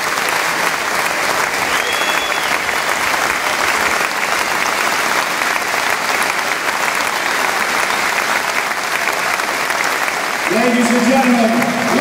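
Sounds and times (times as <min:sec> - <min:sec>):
stadium crowd applauding: 0:00.0 - 0:12.0.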